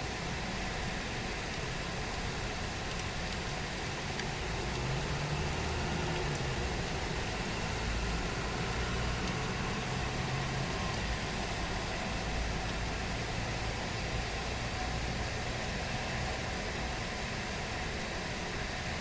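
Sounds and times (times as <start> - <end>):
vehicle engine hum: 2.0 - 19.0.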